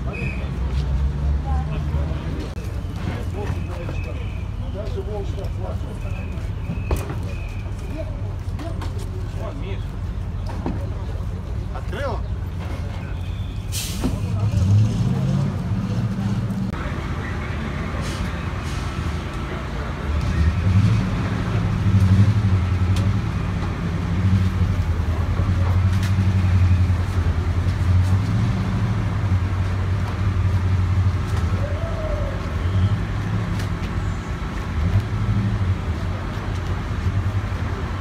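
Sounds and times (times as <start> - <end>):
motor vehicles rumbling: 0.0 - 38.0.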